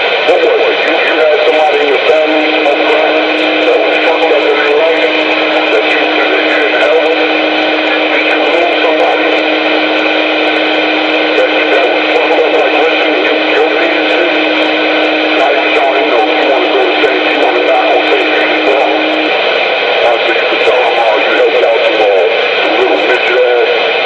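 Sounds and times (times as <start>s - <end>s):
loud radio static: 0.0s - 24.0s
steady low tone: 0.0s - 24.0s
garbled voice over radio: 0.2s - 23.8s.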